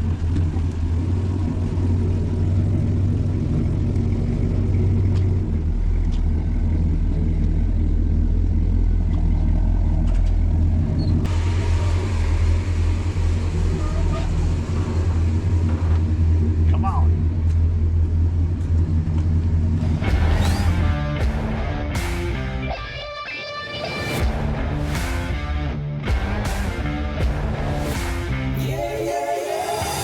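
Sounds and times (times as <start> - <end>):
car engine idling: 0.0 - 23.1, 24.0 - 29.1.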